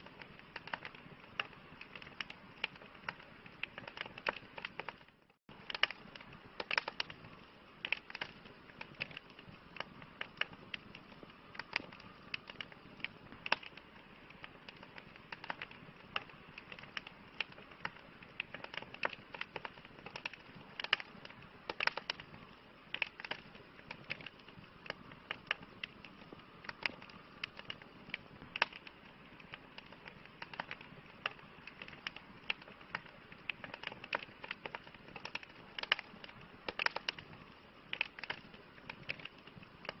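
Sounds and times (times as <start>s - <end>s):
campfire crackling: 0.0s - 40.0s.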